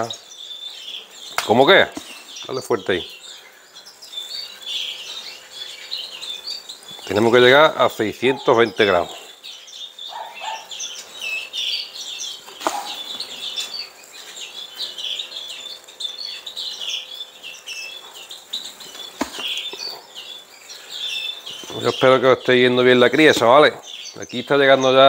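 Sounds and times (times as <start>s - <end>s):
finches chirping and twittering: 0.0s - 25.0s.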